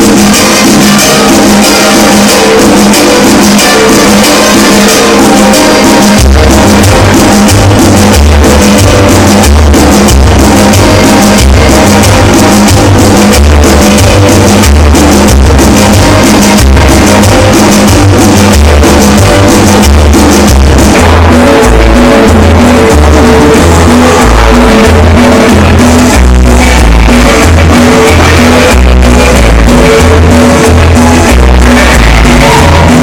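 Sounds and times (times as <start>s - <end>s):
loud dance music: 0.0s - 33.0s.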